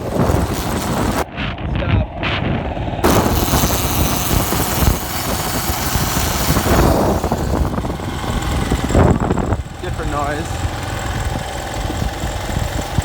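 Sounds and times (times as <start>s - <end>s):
motorcycle engine running: 0.0s - 1.3s, 2.5s - 13.0s
wind noise on microphone: 0.0s - 13.0s.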